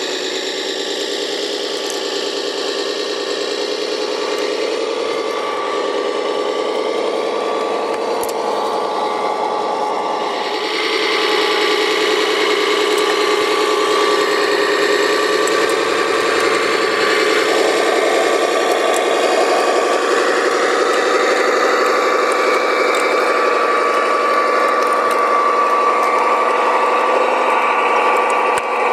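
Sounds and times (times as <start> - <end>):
motor and gear whine: 0.0 - 28.9.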